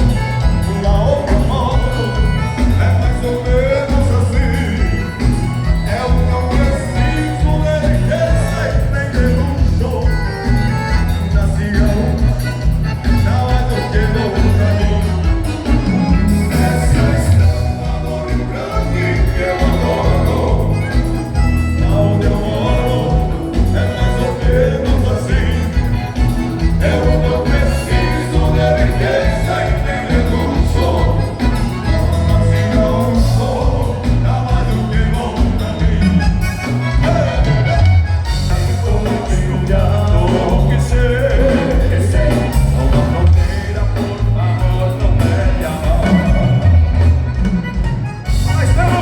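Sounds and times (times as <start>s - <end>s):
steady bass beat: 0.0s - 37.8s, 38.4s - 49.0s
person singing: 0.0s - 47.2s
live dance band music: 0.0s - 49.0s.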